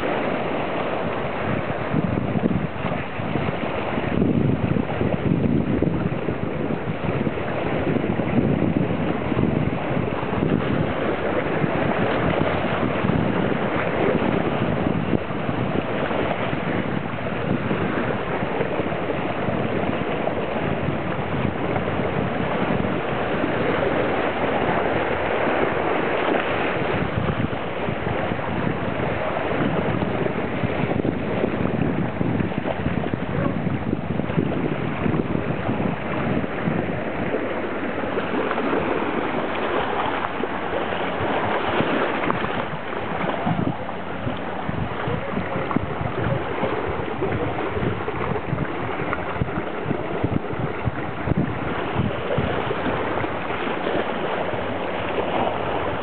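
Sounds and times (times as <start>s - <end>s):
waves splashing over rocks: 0.0s - 56.0s.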